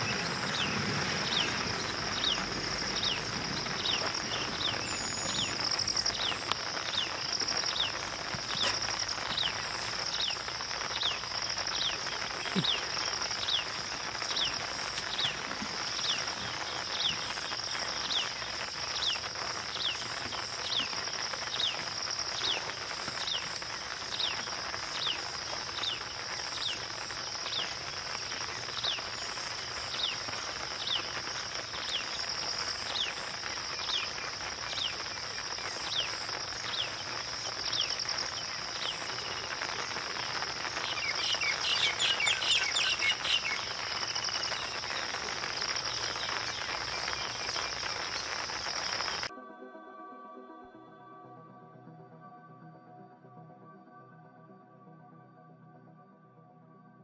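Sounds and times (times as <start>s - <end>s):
high insect drone: 0.0s - 49.3s
rapid bird chirping: 0.0s - 49.3s.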